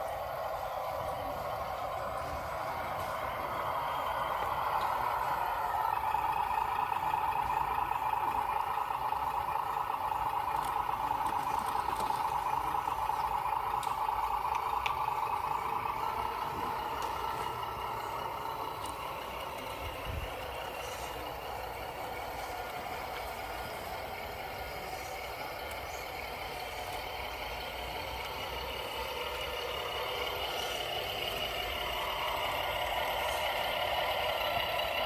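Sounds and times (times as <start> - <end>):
radio-controlled truck running: 0.0 - 35.0.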